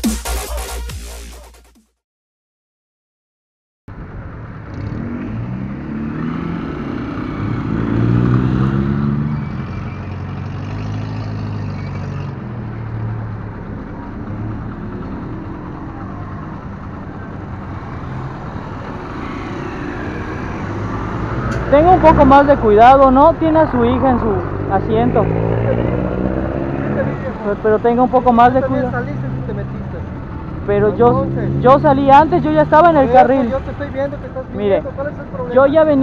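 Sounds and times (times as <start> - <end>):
wind and road noise: 3.9 - 36.0
motorcycle engine revving: 4.0 - 36.0.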